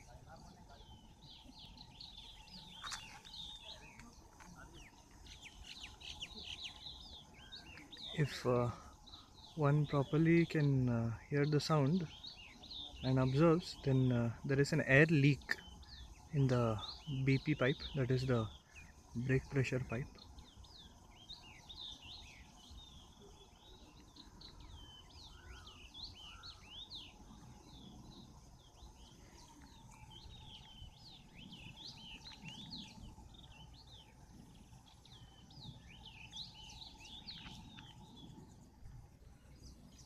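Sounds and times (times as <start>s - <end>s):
birds chirping: 0.0s - 40.0s
faint background noise: 0.0s - 40.0s
faint steady tone: 0.0s - 40.0s.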